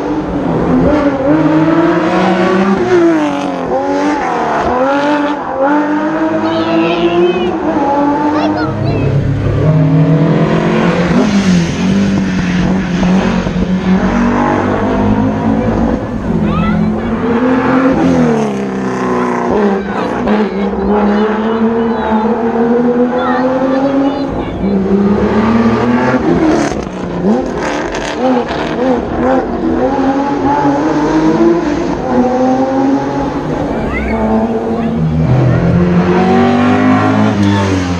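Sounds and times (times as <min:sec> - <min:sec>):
car engine at high revs: 0:00.0 - 0:37.9.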